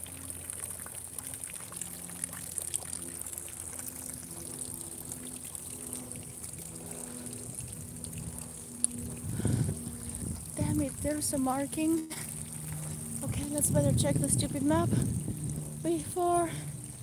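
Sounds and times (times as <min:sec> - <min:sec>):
fountain water pouring and trickling: 0:00.0 - 0:17.0.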